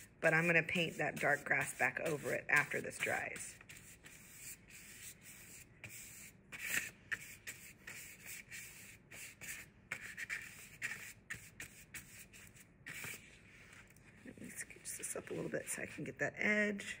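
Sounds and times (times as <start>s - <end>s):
paintbrush strokes on paper: 0.0s - 16.2s.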